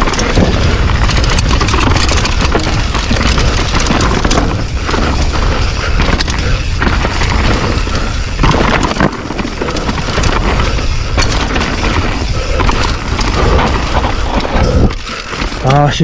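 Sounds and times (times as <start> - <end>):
bike knocks and rattles: 0.0 - 16.0
wind buffeting microphone: 0.0 - 16.0.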